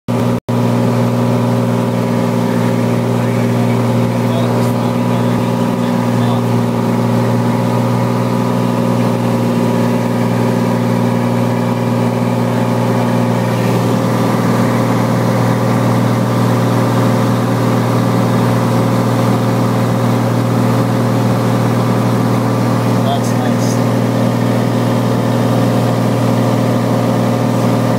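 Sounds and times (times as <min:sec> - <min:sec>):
light aircraft engine drone: 0:00.1 - 0:27.9.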